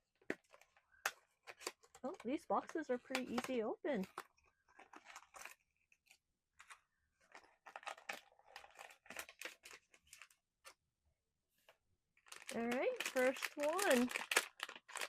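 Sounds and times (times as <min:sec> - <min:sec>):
cardboard packaging rustling and tearing: 0:00.2 - 0:10.4, 0:12.2 - 0:15.0.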